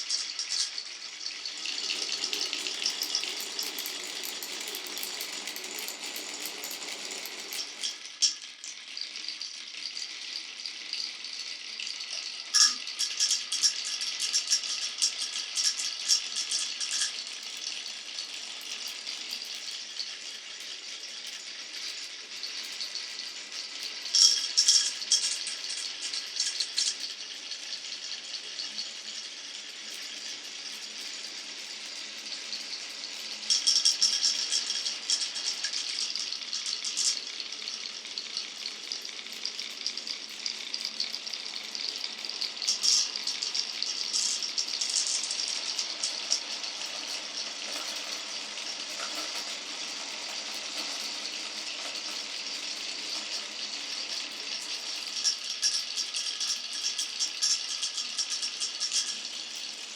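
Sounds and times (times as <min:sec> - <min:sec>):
marbles rolling on marble run: 0:00.0 - 0:11.4, 0:12.1 - 0:59.9.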